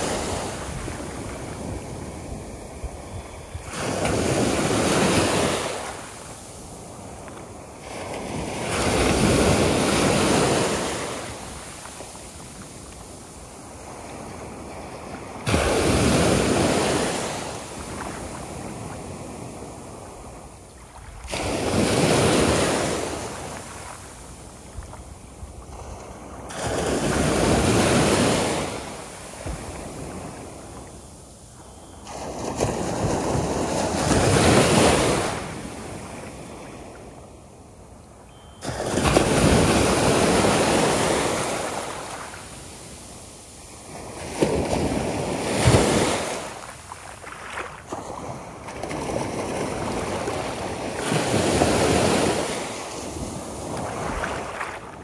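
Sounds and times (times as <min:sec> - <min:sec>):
waves breaking on sandy beach: 0:00.0 - 0:55.0.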